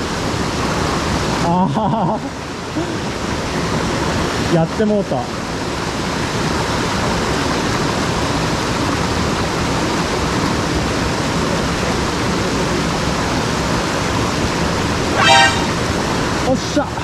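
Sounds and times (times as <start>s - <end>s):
water rushing over rocks: 2.4s - 17.0s.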